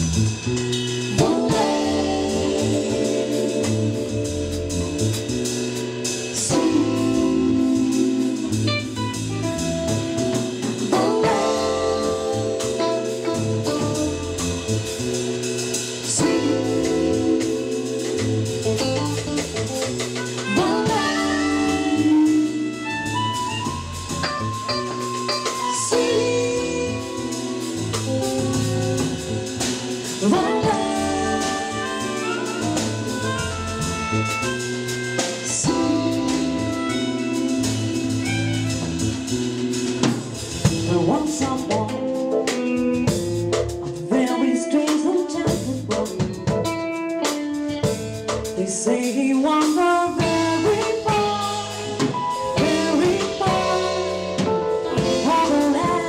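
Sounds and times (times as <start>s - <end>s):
live jazz band playing: 0.0s - 56.0s.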